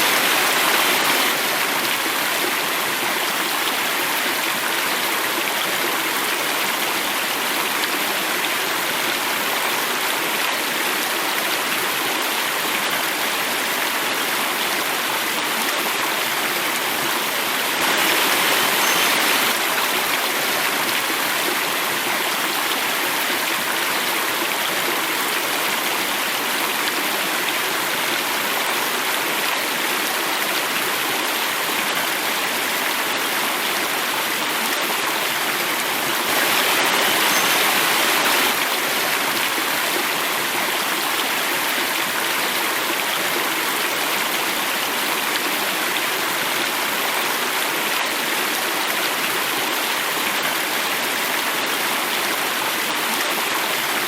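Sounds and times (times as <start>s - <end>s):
water falling over cascade: 0.0s - 54.0s.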